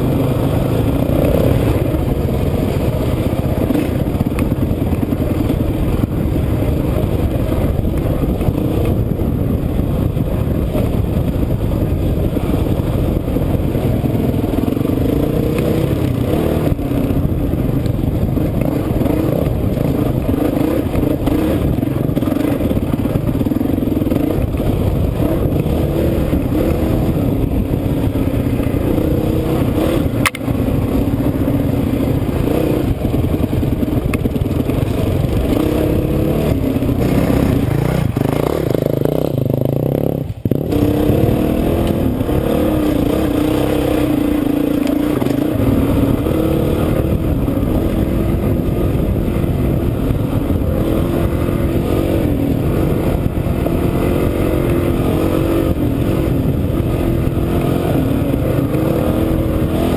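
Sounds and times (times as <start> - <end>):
dirt and clatter from trail: 0.0 - 59.9
motorcycle engine revving: 0.0 - 59.9.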